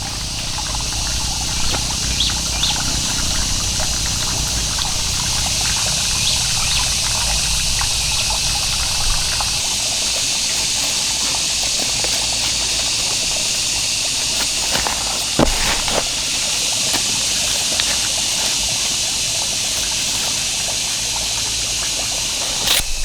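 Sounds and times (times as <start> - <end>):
water trickling: 0.0 - 22.8.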